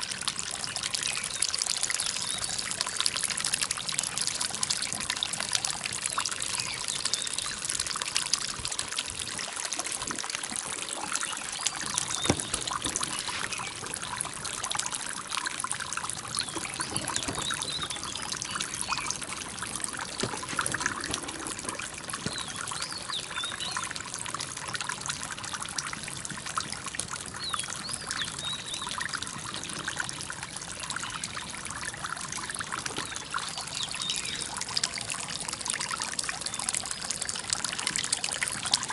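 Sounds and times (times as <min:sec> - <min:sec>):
fountain water trickling and splashing: 0:00.0 - 0:38.9.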